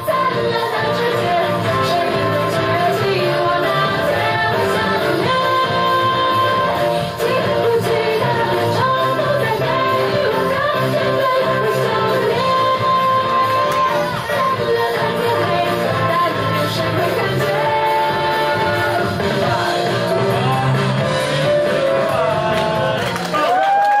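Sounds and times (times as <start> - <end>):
funk song with singer: 0.0 - 23.8.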